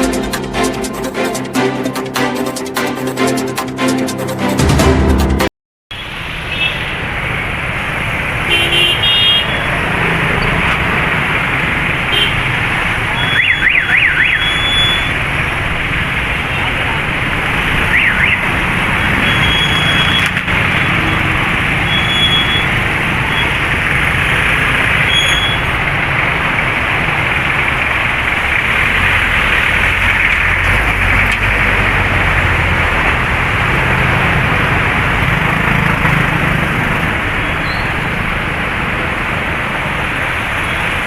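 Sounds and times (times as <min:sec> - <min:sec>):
traffic on wet street: 0:05.9 - 0:41.0
heavy rain pouring: 0:06.0 - 0:08.6, 0:09.4 - 0:41.0.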